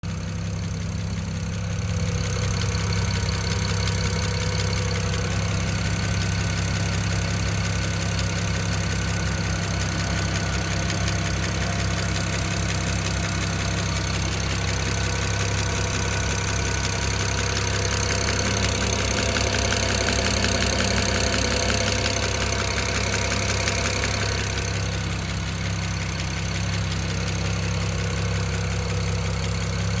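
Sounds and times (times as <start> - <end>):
car engine idling: 0.0 - 30.0
rapid engine ticking: 0.0 - 30.0.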